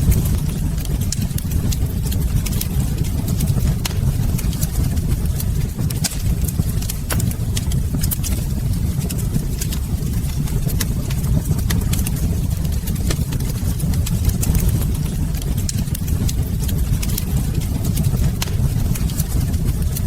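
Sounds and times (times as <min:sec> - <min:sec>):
fireplace fire crackling and popping: 0:00.0 - 0:20.0
low rumble: 0:00.0 - 0:20.0.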